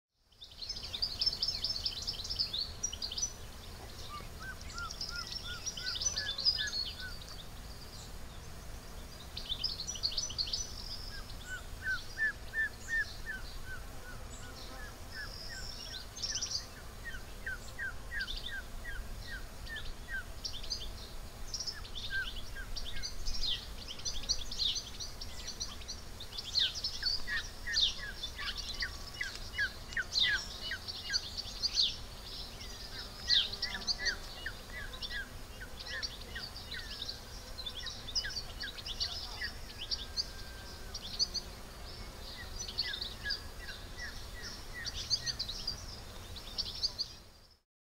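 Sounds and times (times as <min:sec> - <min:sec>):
birds singing and chirping: 0:00.3 - 0:47.6.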